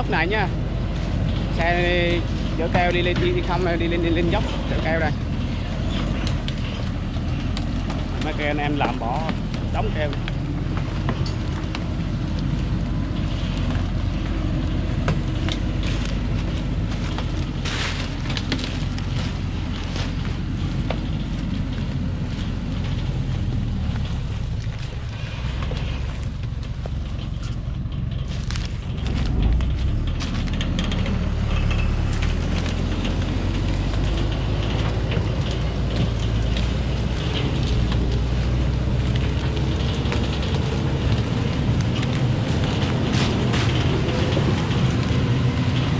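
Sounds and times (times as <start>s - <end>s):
truck diesel engine labouring: 0.0s - 45.9s
tyres crackling over branches: 0.0s - 45.9s.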